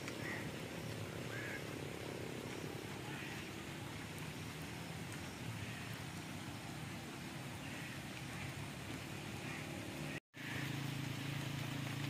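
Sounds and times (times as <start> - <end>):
light rain on wet road: 0.0 - 12.0.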